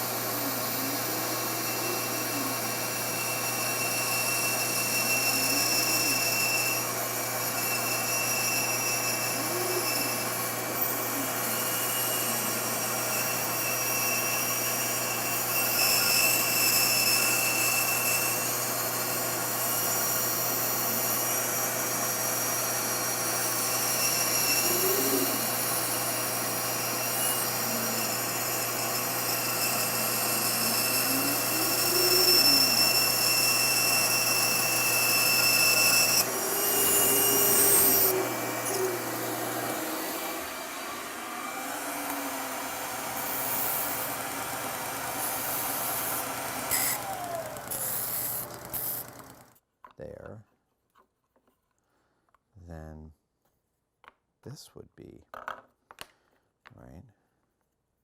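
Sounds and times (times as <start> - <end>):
power tool running on wood: 0.0 - 49.6.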